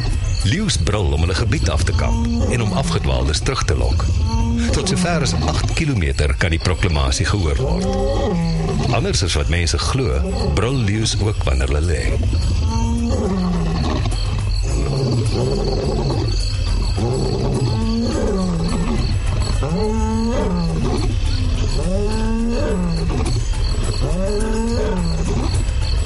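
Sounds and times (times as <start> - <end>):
lion roaring: 0.0 - 6.2, 6.9 - 26.0.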